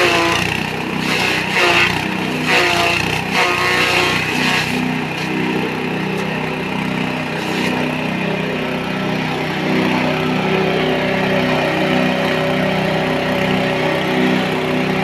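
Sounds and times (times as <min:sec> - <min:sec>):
forage chopper engine running: 0:00.0 - 0:15.0.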